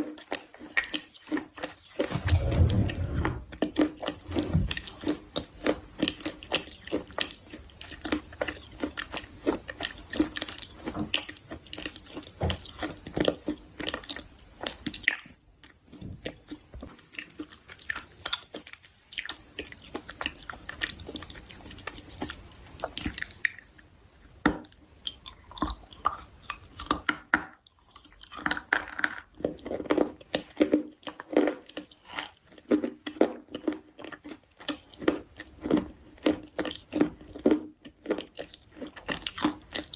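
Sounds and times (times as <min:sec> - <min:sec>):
chewing crunchy food: 0:00.0 - 0:03.0, 0:03.7 - 0:39.9.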